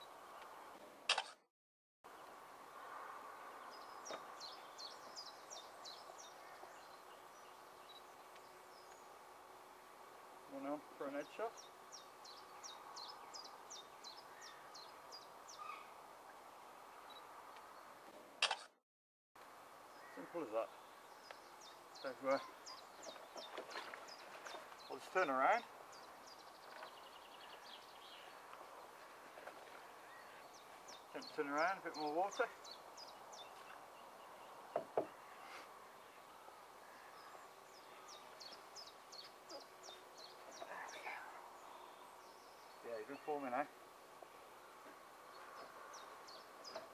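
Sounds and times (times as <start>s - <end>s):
faint outdoor hiss: 0.0s - 1.4s, 2.1s - 18.7s, 19.4s - 46.9s.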